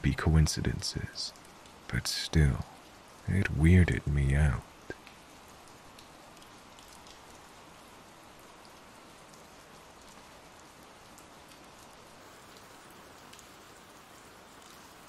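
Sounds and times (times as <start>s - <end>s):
rain hiss: 0.0s - 15.0s
raindrop ticks: 0.0s - 15.0s.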